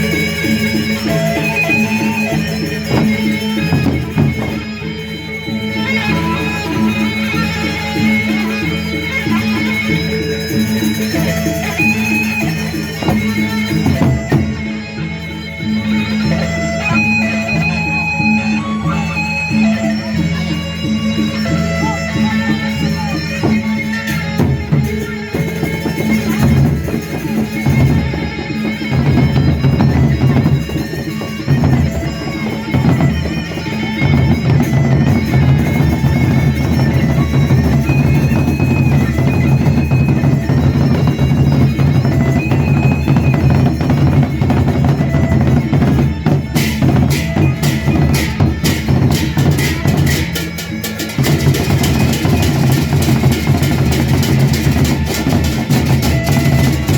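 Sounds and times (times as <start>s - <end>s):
drum and percussion ensemble: 0.0s - 56.9s
rapid sharp percussion strokes: 0.0s - 56.9s.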